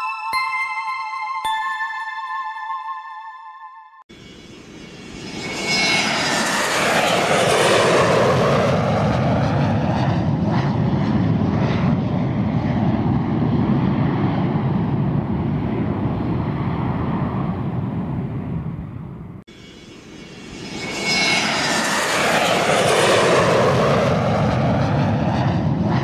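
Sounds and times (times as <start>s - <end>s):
airplane engine passing: 4.1s - 26.0s.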